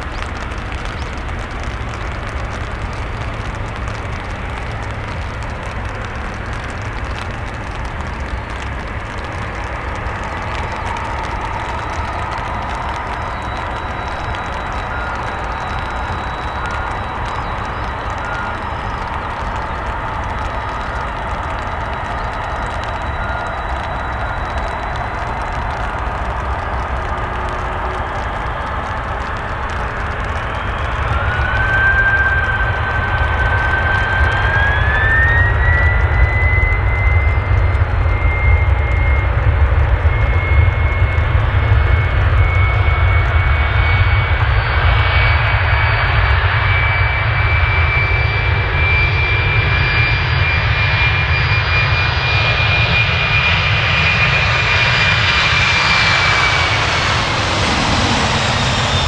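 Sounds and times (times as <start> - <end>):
deep rumble: 0.0 - 59.0
jet engine whine: 0.0 - 59.0.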